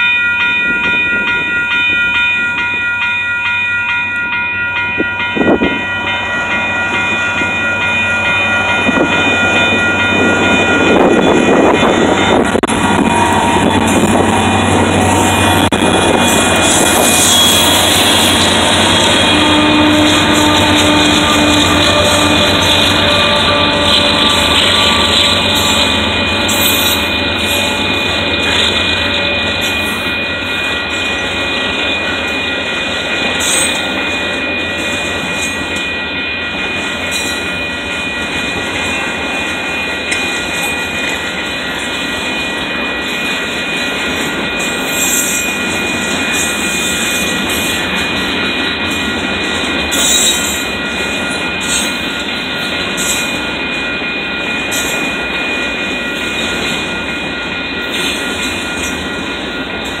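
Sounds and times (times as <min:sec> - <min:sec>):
steel wheels rumbling on rail: 0:00.0 - 1:00.0.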